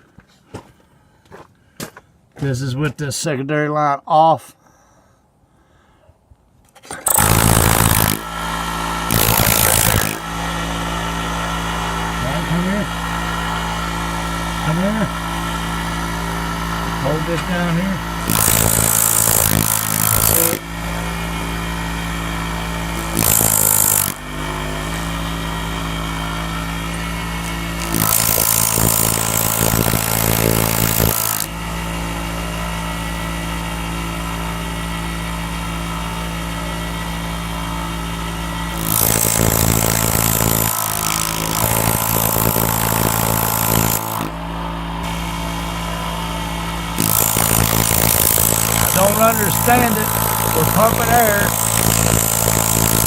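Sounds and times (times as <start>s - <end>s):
air compressor pump running: 6.9s - 53.0s.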